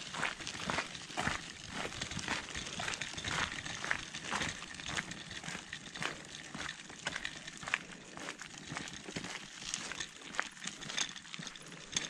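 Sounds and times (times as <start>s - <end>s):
footsteps on gravel: 0.0s - 12.0s.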